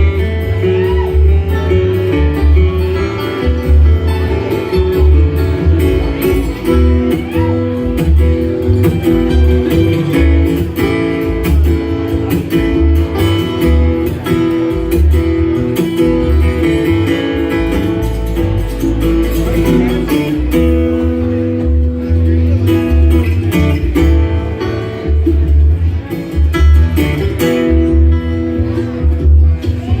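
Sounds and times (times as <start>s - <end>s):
flatpicked acoustic guitar: 0.0s - 30.0s
low bass notes: 0.0s - 30.0s.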